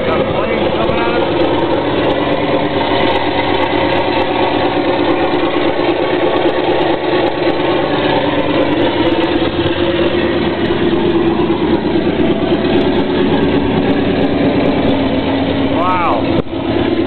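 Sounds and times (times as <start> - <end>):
radial aircraft engine running: 0.0 - 17.0.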